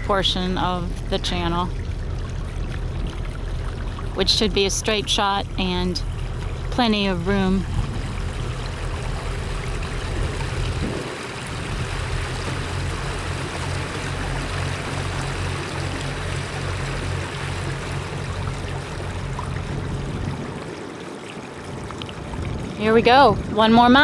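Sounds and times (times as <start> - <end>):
boat engine humming: 0.0 - 24.0
water rushing along hull: 0.0 - 24.0.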